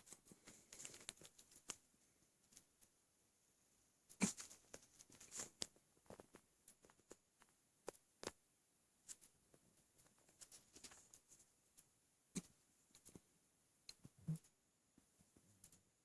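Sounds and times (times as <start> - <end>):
small clicks and rustles: 0.0 - 3.0, 4.0 - 16.0.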